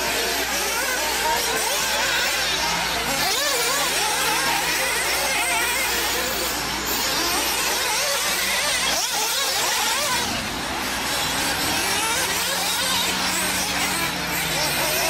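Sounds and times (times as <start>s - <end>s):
small engines revving: 0.0s - 15.0s.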